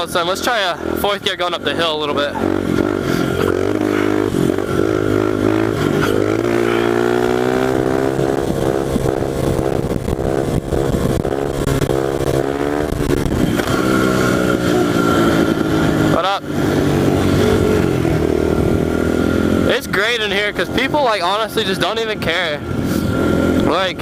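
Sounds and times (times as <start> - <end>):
small motorcycle engine at high revs: 0.0 - 24.0.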